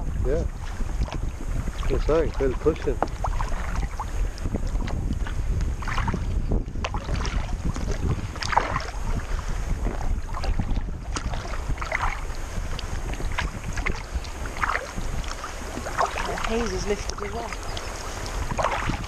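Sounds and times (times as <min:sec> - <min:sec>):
paddle splashing into water: 0:00.0 - 0:19.0
wind buffeting microphone: 0:00.0 - 0:19.0.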